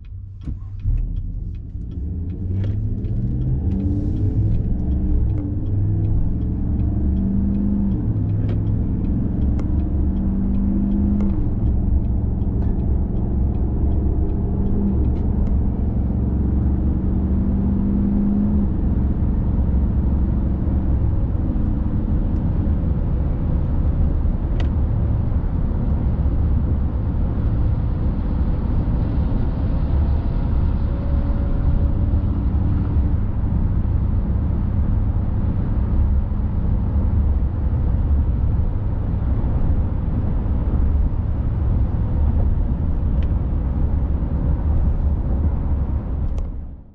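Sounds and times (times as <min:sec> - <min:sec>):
low exhaust hum: 0:00.0 - 0:46.9
road and tyre noise: 0:00.0 - 0:46.9.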